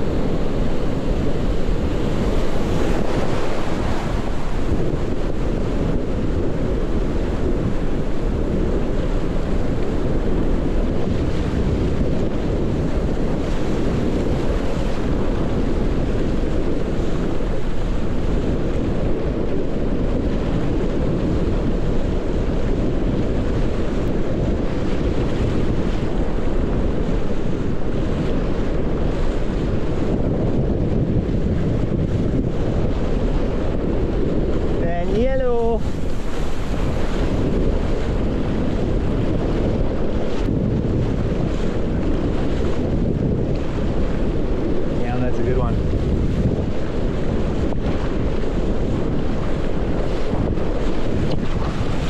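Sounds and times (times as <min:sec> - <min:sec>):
water rushing under board: 0:00.0 - 0:52.0
wind buffeting microphone: 0:00.0 - 0:52.0.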